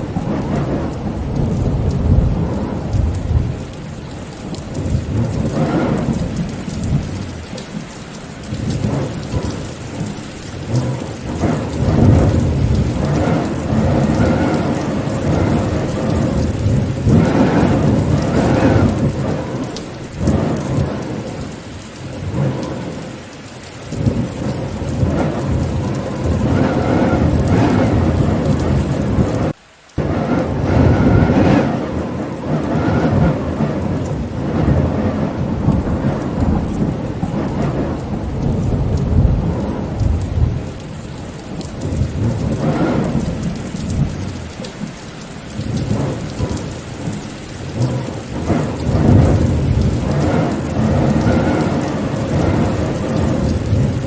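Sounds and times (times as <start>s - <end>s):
rolling thunder: 0.0s - 23.2s, 23.8s - 54.0s
heavy rain: 0.0s - 54.0s.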